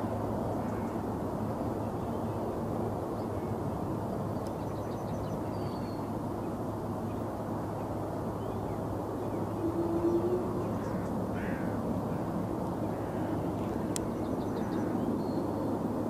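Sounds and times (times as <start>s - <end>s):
distant jet aircraft rumble: 0.0s - 16.0s.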